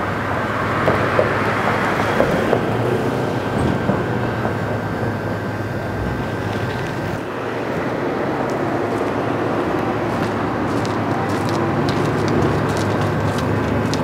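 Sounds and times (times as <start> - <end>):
thin steady whine: 0.0 - 14.0
vehicle engine rumbling: 0.0 - 14.0.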